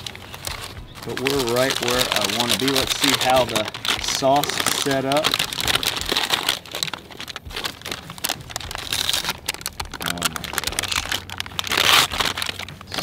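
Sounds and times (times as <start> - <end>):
paper crinkling and rustling: 0.0 - 13.0.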